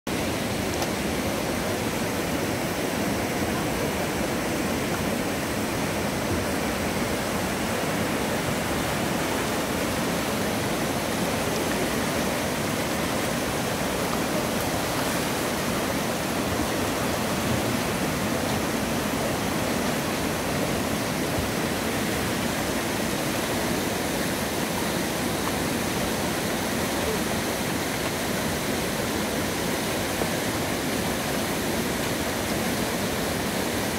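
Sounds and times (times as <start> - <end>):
river rapids rushing over rocks: 0.1 - 33.9.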